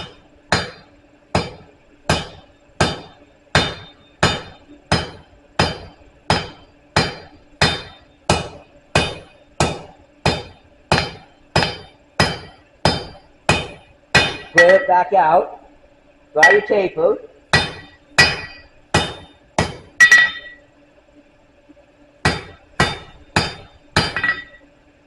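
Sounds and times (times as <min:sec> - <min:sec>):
hammer striking steel on anvil: 0:00.0 - 0:00.8, 0:01.4 - 0:15.1, 0:16.4 - 0:16.9, 0:17.6 - 0:20.6, 0:22.2 - 0:24.6.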